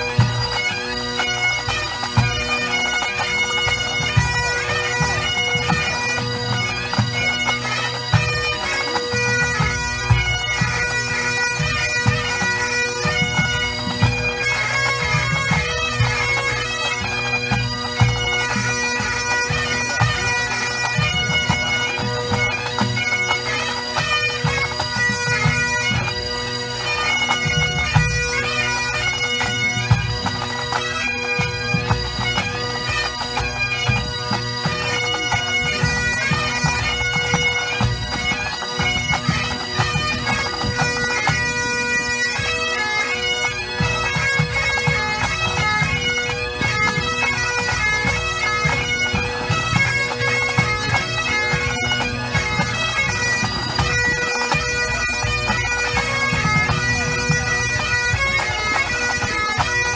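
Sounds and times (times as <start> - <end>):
bagpipes playing a tune: 0.0 - 59.9.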